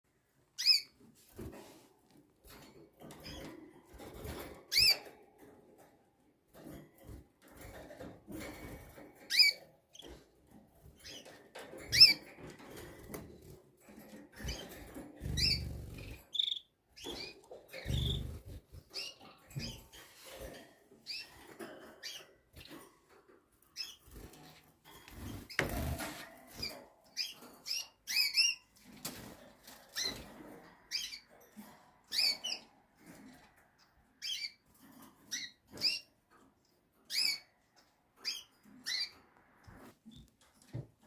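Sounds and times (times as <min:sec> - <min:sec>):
canaries chirping: 0:00.5 - 0:01.6, 0:02.5 - 0:05.9, 0:06.6 - 0:40.8.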